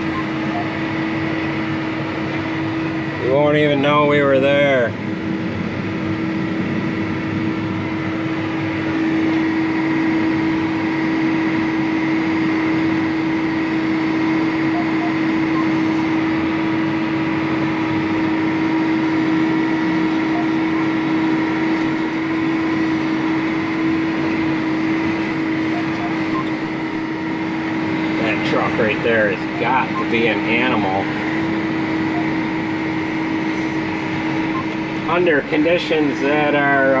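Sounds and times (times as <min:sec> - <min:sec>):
tractor diesel engine drone: 0:00.0 - 0:37.0.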